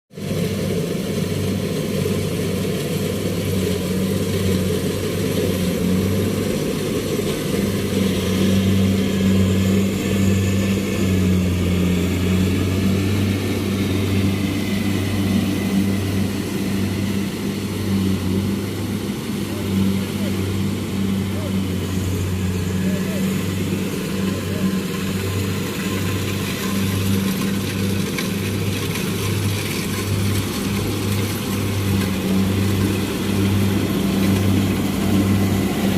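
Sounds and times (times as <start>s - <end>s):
combine harvester engine hum: 0.1s - 35.9s.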